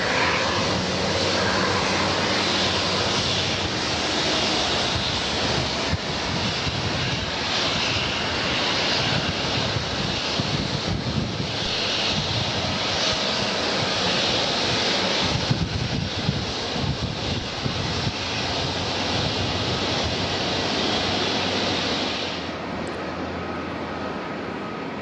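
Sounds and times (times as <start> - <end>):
jet airliner roaring on takeoff: 0.0 - 25.0.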